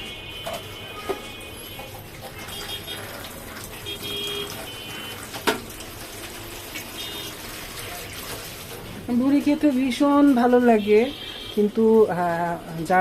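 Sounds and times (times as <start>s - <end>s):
water boiling in a pot: 0.0s - 13.0s.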